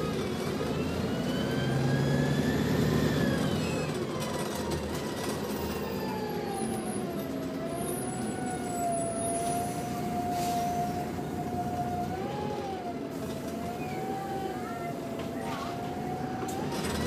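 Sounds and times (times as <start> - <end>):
diesel engine and road rumble: 0.0 - 17.0
bus gearbox whine: 0.2 - 17.0.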